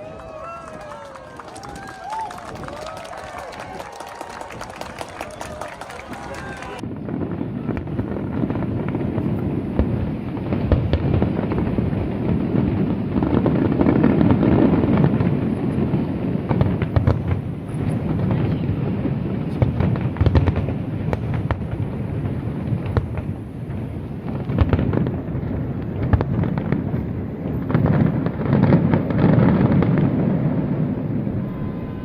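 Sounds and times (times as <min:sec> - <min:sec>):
fireworks cracking and crackling: 0:00.0 - 0:31.5
fireworks booming: 0:04.1 - 0:32.0.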